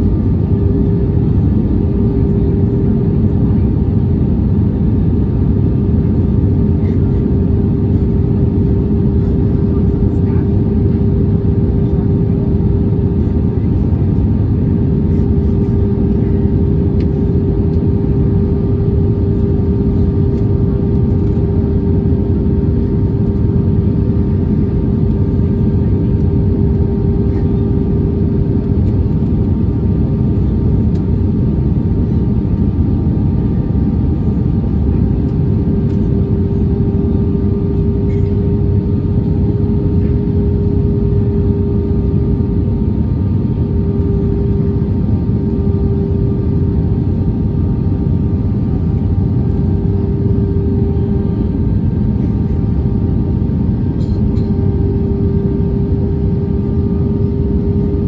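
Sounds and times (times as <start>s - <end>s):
airplane cabin engine rush: 0.0s - 58.0s.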